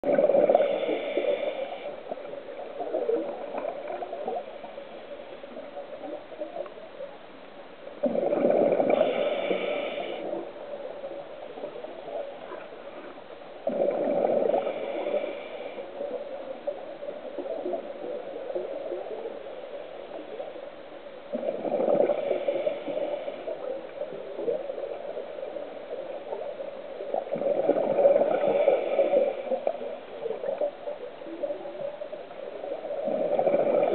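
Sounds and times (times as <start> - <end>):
exhaled bubbles gurgling underwater: 0.0 - 33.9
muffled underwater noise: 0.0 - 33.9.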